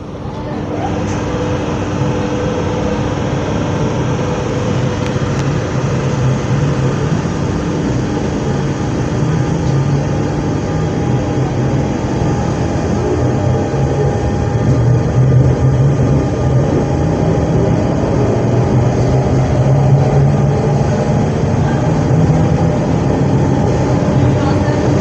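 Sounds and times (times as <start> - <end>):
electric train equipment humming: 0.0 - 25.0.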